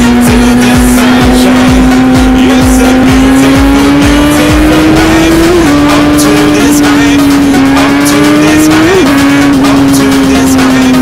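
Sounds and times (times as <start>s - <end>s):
held rising musical note: 0.0s - 10.2s.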